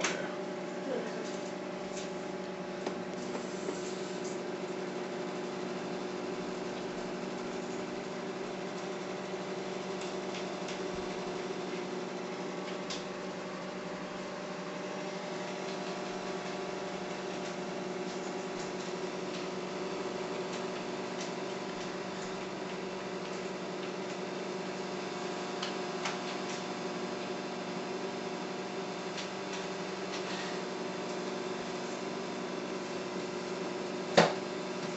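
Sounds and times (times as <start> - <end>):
microwave oven humming: 0.0 - 34.9.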